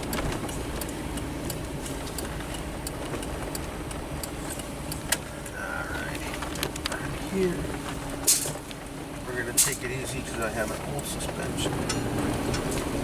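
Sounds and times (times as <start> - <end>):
vehicle rumble on rough road: 0.0 - 13.0.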